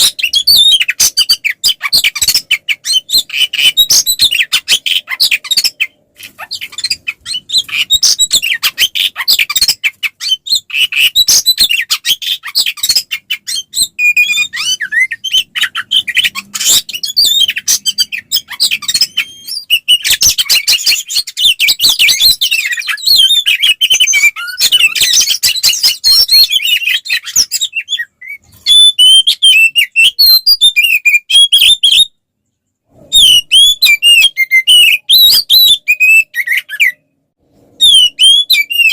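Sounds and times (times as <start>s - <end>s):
bird singing chirps and whistles: 0.0s - 32.2s, 33.1s - 37.0s, 37.8s - 38.9s.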